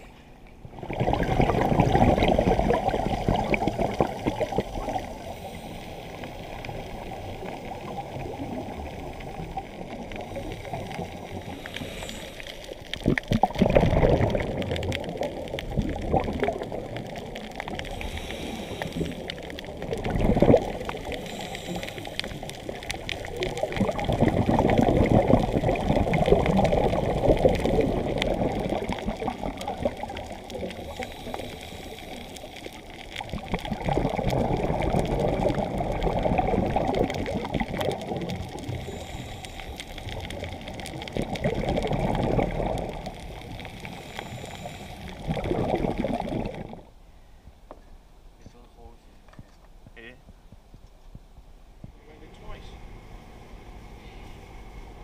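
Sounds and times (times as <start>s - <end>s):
muffled underwater rush: 0.0s - 47.7s
regulator bubbles gurgling: 0.6s - 47.0s.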